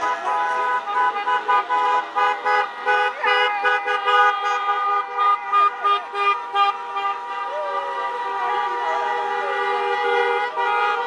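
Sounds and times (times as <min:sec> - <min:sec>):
car horns honking: 0:00.0 - 0:11.0.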